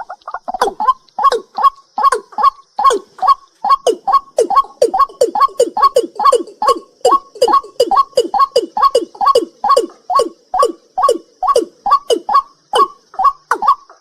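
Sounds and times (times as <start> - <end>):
night bird calling: 0.0 - 14.0.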